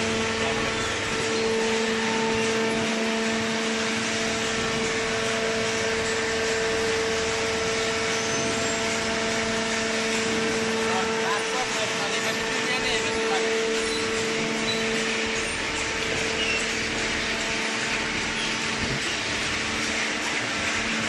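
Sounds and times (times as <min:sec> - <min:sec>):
baler motor and pump humming: 0:00.0 - 0:21.0.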